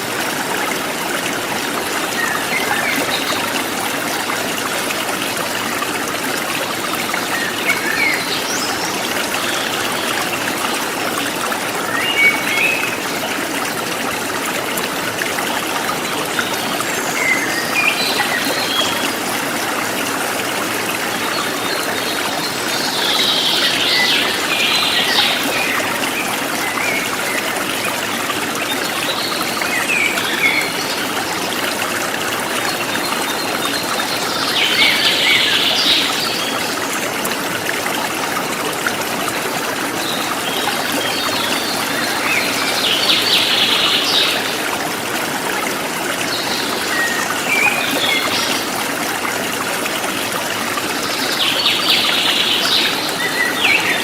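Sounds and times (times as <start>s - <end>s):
forest stream flowing: 0.0s - 54.0s.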